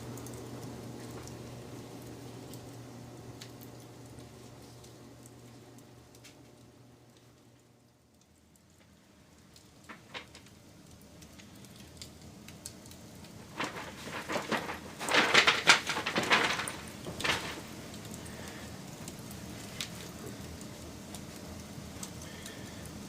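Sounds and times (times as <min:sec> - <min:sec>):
soft steady hiss: 0:00.0 - 0:23.0
wood fire crackling and popping: 0:00.0 - 0:23.0.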